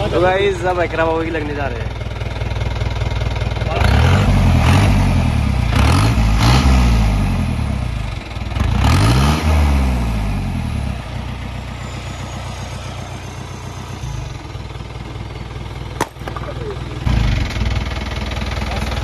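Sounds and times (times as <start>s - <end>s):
jeep engine revving and idling: 0.0s - 19.0s.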